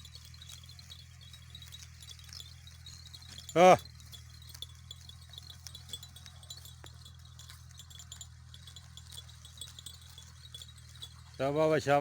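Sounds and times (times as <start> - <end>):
small bells tinkling: 0.0 - 12.0.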